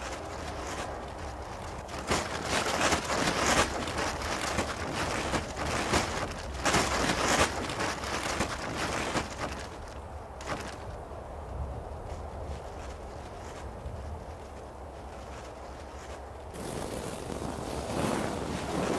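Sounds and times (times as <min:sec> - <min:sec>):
plastic sheeting crinkling: 0:00.0 - 0:11.0, 0:11.9 - 0:18.9
low wind rumble: 0:00.0 - 0:18.9.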